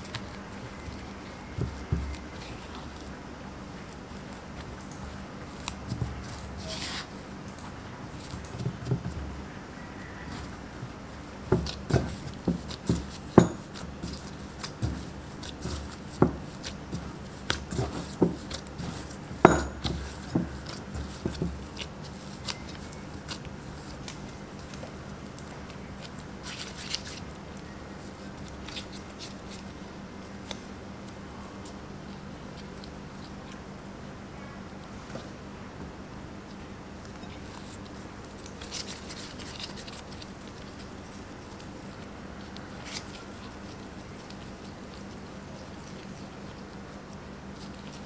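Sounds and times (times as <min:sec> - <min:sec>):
disposable gloves rustling: 0:00.0 - 0:33.7, 0:36.4 - 0:48.0
hands kneading dough: 0:00.0 - 0:48.0.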